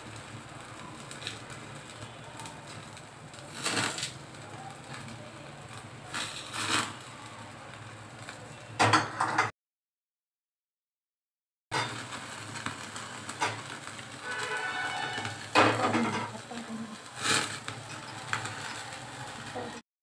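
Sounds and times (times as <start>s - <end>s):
flames flaring up: 0.0s - 8.9s, 11.8s - 19.8s
gas burner running: 0.0s - 8.9s, 11.8s - 19.8s.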